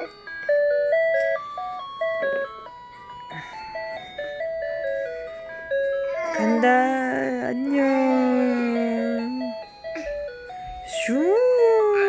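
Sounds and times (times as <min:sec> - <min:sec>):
toy electronic melody: 0:00.0 - 0:12.0.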